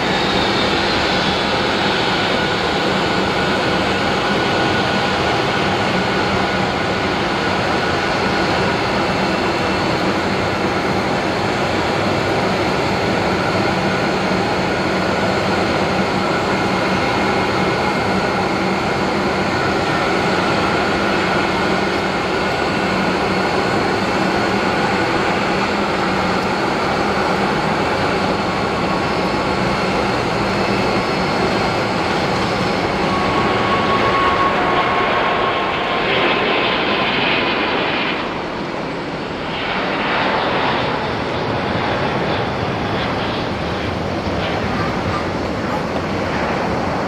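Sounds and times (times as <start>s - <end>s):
jet engines at takeoff power: 0.0s - 47.0s.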